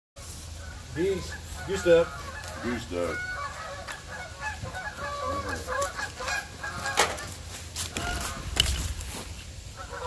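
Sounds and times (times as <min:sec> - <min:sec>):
geese honking: 0:00.4 - 0:09.0, 0:09.7 - 0:10.0.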